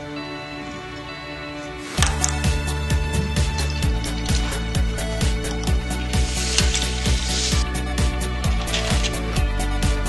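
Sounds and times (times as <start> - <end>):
soft background music: 0.0 - 10.0
regular music beat: 1.7 - 10.0.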